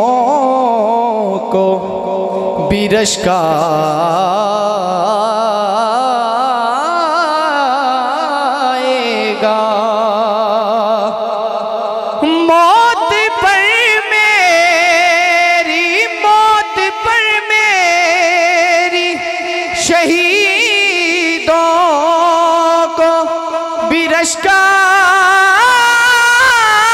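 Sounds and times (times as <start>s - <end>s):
man singing melismatic notes: 0.0s - 26.9s.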